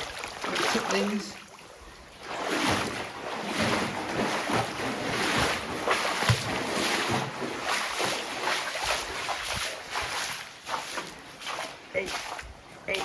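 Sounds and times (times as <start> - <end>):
person wading through water: 0.0 - 13.0.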